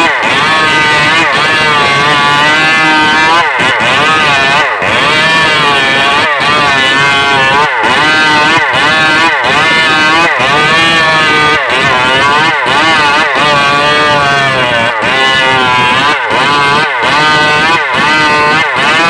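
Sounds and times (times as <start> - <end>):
chainsaw running at high revs: 0.0 - 19.0.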